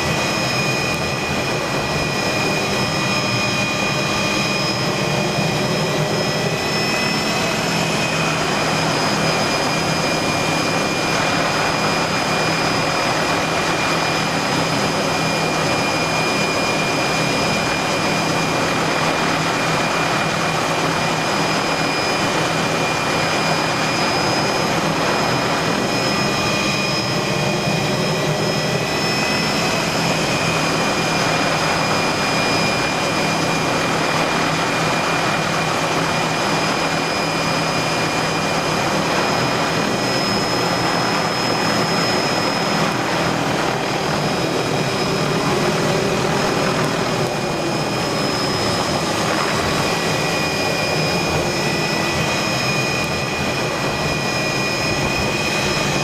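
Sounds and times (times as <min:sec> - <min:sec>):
helicopter rotor and wind rush: 0:00.0 - 0:56.0
high-pitched engine whine: 0:00.0 - 0:56.0.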